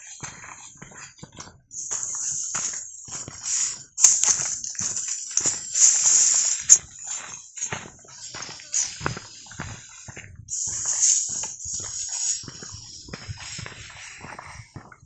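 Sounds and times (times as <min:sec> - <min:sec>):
footsteps crunching on trail: 0:00.0 - 0:15.0
loud rustling hiss: 0:01.7 - 0:14.8.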